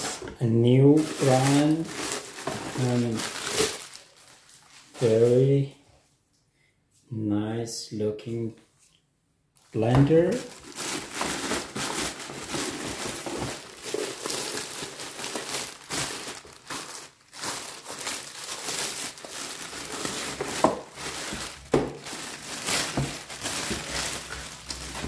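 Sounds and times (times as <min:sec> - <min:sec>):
plastic bag crinkling: 0:00.0 - 0:05.6, 0:09.6 - 0:25.0.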